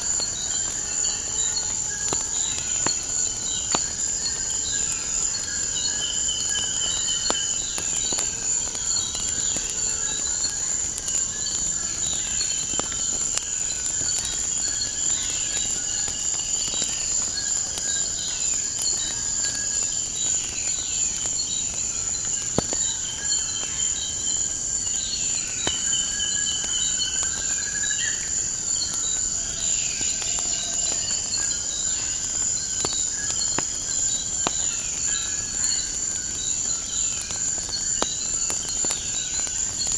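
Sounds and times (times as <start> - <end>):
crickets chirring: 0.0 - 39.9
fire crackling: 0.0 - 39.9.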